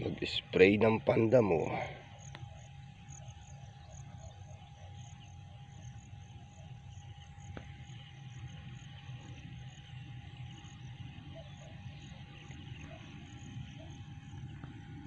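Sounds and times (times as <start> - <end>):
electric sprayer pump humming: 0.0 - 15.0
insects chirping: 0.0 - 15.0.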